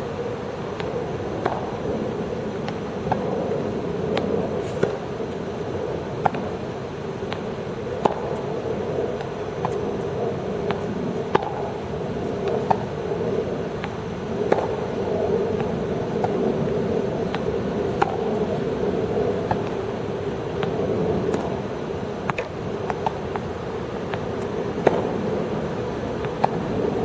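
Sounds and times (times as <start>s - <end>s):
steady background hum: 0.0s - 27.0s
tennis balls bouncing on court: 0.7s - 27.0s
tennis balls struck with rackets: 0.7s - 27.0s.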